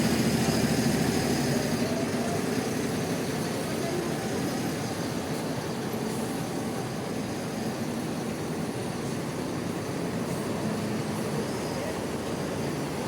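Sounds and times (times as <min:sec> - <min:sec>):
diesel bus engines rumbling: 0:00.0 - 0:13.0.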